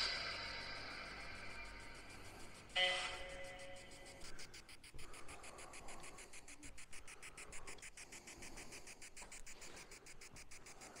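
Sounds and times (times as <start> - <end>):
pulsing static hiss: 0.0 - 11.0.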